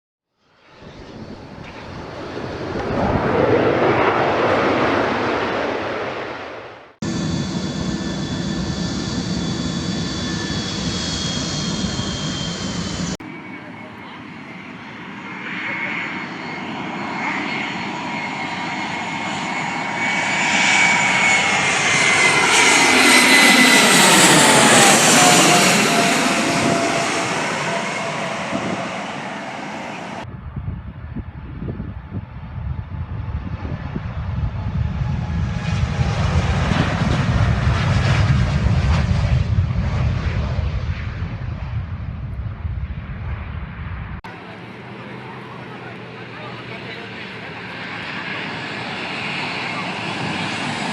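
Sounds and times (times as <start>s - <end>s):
airplane engine whine passing: 0.4s - 50.9s
airplane engine rumbling roar: 0.5s - 50.9s.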